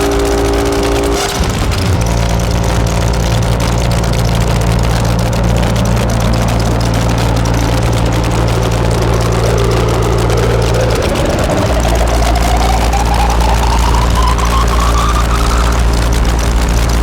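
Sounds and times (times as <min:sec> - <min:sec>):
crackling noise wash: 0:00.0 - 0:17.0
rising synthesizer tone: 0:00.0 - 0:17.0
synthesizer drone low buzzing hum: 0:00.0 - 0:17.0.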